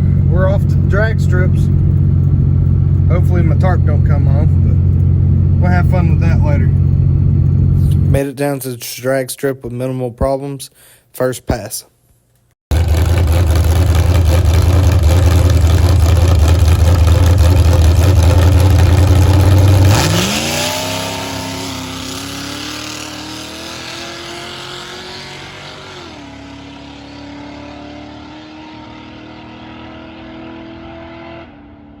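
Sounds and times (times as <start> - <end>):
drag car engine revving: 0.0 - 8.2, 12.7 - 31.9.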